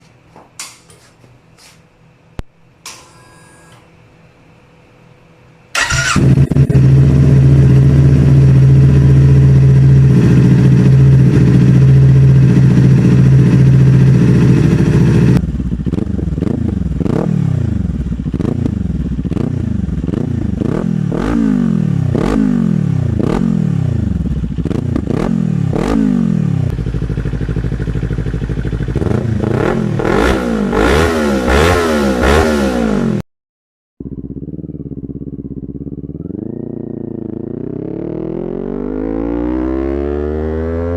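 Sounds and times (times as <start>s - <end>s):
motorcycle engine idling and revving: 5.7s - 33.2s, 34.0s - 40.9s.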